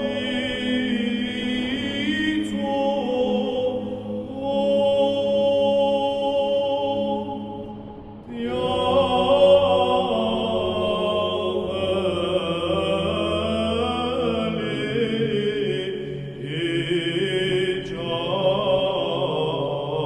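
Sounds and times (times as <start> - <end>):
slow chanted singing: 0.0 - 20.0.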